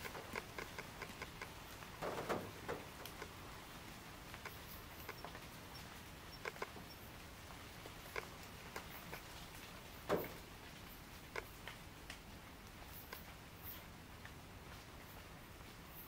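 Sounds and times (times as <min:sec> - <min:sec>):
faint steady hiss: 0:00.0 - 0:16.0
raindrops tapping and dripping: 0:00.0 - 0:16.0.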